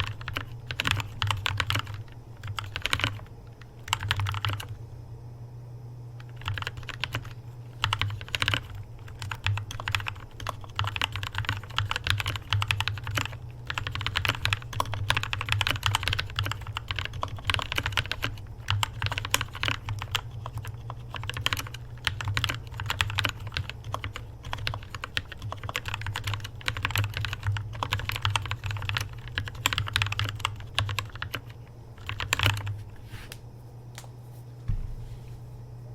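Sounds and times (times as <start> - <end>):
mechanical keyboard typing: 0.0 - 4.8, 6.2 - 32.8.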